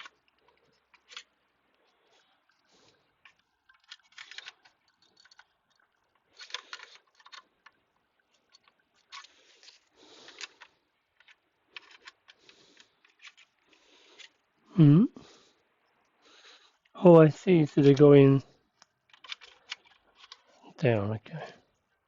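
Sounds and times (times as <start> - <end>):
small hard parts clicking and rattling: 0.0 - 14.6, 17.6 - 20.8.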